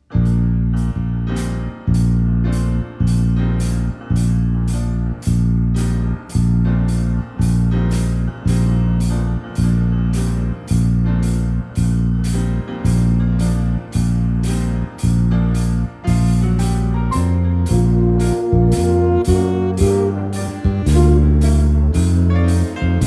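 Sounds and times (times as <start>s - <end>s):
keyboard-led instrumental music: 0.0s - 23.0s.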